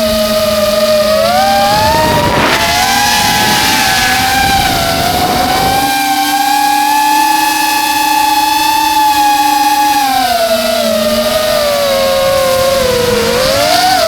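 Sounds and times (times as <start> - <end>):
drone motors whining: 0.0 - 14.0
wind noise: 0.0 - 14.0.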